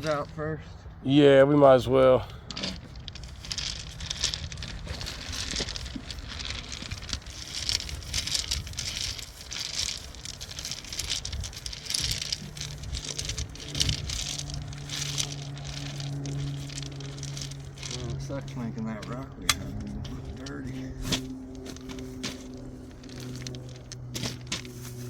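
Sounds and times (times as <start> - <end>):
branches rustling: 0.0 - 0.4, 2.2 - 25.0
low steady hum: 0.0 - 25.0.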